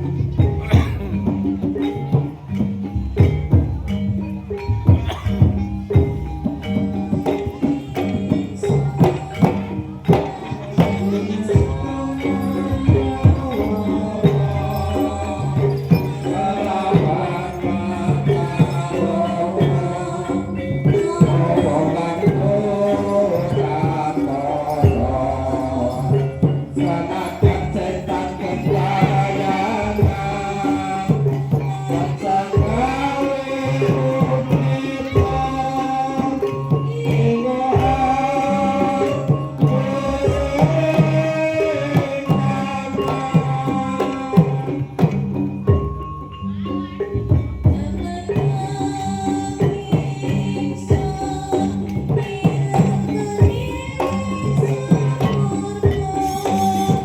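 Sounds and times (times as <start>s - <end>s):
drum strokes: 0.0s - 57.0s
person singing: 0.0s - 57.0s
ringing metal percussion: 0.0s - 57.0s.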